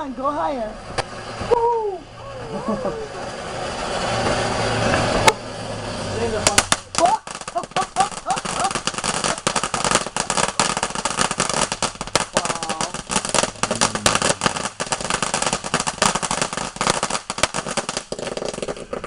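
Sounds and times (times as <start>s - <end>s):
fireworks crackling pops: 0.8s - 1.9s, 3.1s - 19.0s
firework whistle: 1.2s - 19.0s.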